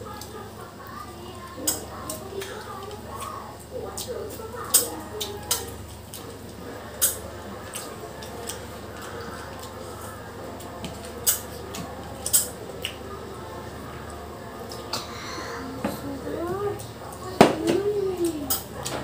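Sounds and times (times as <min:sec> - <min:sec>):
quiet chewing: 0:00.0 - 0:19.0.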